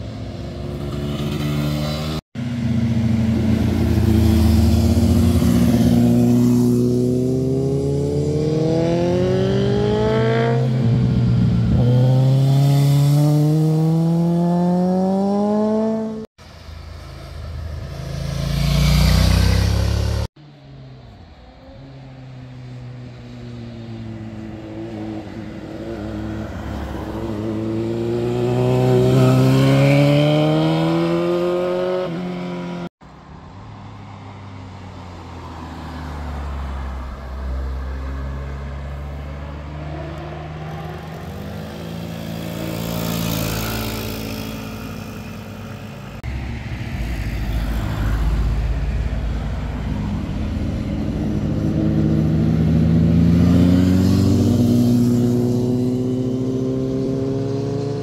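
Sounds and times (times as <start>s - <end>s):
motorcycles accelerating: 0.0s - 20.3s, 23.2s - 32.9s, 37.0s - 58.0s
car passing: 0.0s - 58.0s.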